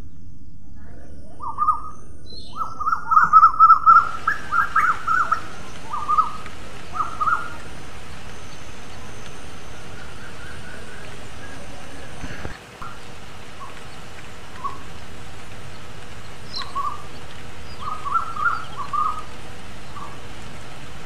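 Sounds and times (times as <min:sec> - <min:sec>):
bird calling: 0:01.3 - 0:21.0
background hiss: 0:02.4 - 0:21.0.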